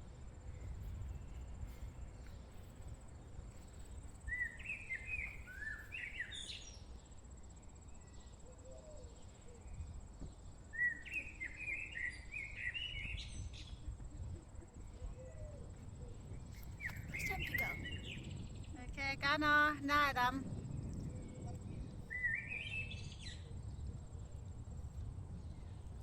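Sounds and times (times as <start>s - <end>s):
songbird chirping: 0.0s - 24.8s
high insect drone: 0.0s - 26.0s.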